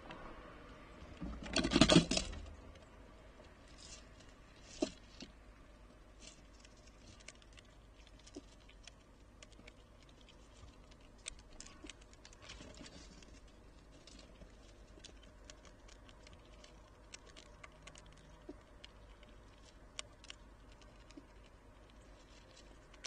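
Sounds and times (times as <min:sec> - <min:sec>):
squirrel scuffle on wooden feeder: 0:01.0 - 0:02.6, 0:03.4 - 0:05.4, 0:06.1 - 0:23.0.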